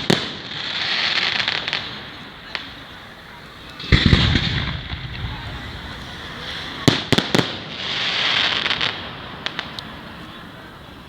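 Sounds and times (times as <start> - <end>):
firework bangs: 0.0 - 11.0
hissing crackle of fireworks: 0.0 - 11.0.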